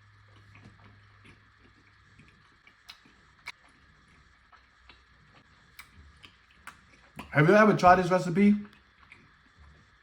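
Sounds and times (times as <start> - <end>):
faint chewing: 0.0 - 7.4, 8.6 - 10.0.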